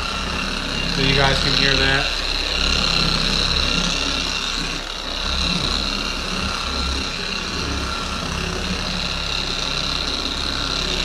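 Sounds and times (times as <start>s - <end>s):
polisher motor whining: 0.0s - 11.0s.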